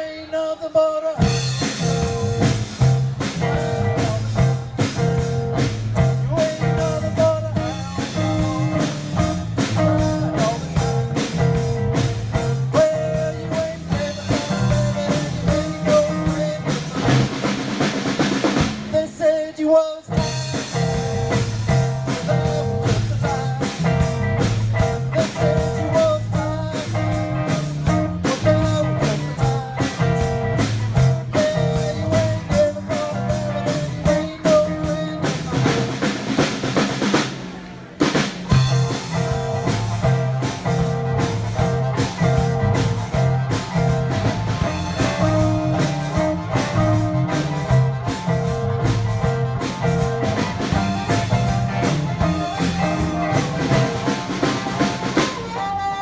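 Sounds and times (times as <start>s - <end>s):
bass guitar: 1.1s - 56.0s
drum kit beat: 1.2s - 19.4s, 20.1s - 56.0s
electric guitars: 1.2s - 56.0s.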